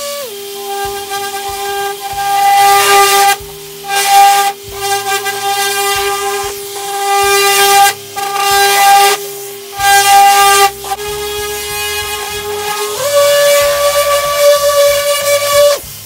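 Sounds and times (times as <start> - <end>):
orbital sander whining: 0.0 - 16.0
sanding pad hissing on paint: 0.0 - 16.0.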